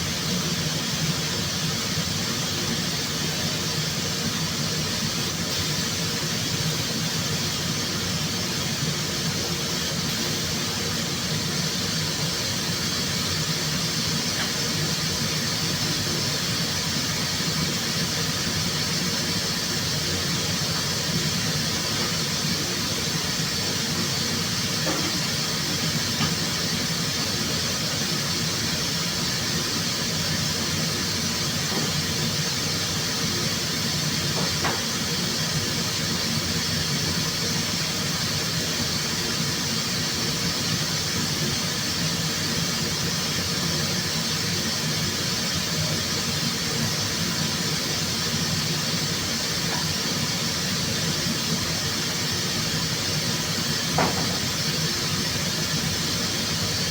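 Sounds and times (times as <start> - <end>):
rushing hiss of spray booth air: 0.0 - 56.9.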